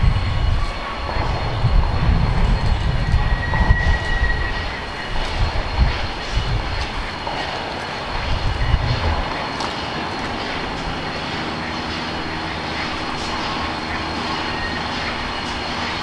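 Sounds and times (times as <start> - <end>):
steam train rushing roar: 0.0 - 16.0.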